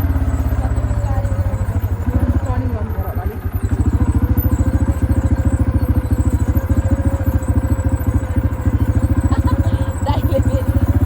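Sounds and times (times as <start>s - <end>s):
quad bike engine idling: 0.0s - 11.0s.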